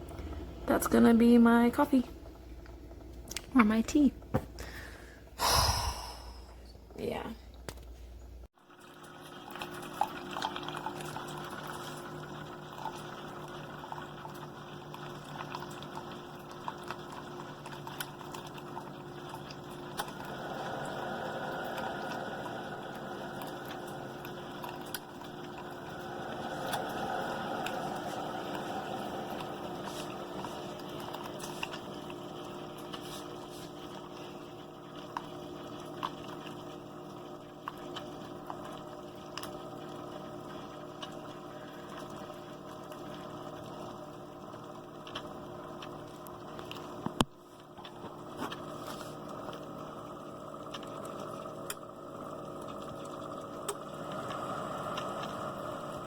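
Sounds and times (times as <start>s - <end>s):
coffee maker humming: 0.0s - 7.8s, 8.5s - 56.0s.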